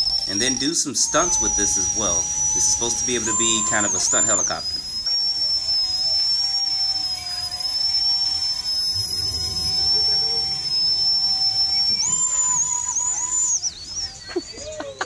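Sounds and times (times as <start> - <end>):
rc helicopter motors whining: 0.0 - 15.0.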